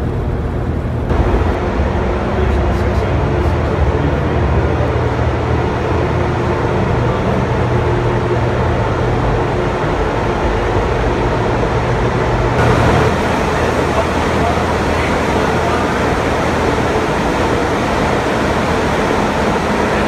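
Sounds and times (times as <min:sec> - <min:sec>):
low electrical hum: 0:00.0 - 0:20.0
machinery drone: 0:00.0 - 0:20.0.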